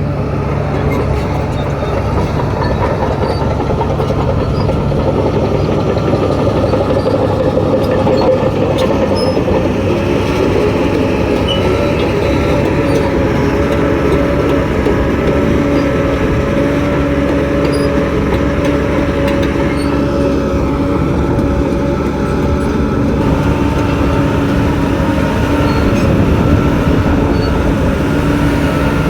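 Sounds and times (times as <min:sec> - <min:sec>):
bulldozer diesel engine: 0:00.0 - 0:29.0
bulldozer rattle: 0:00.0 - 0:29.0.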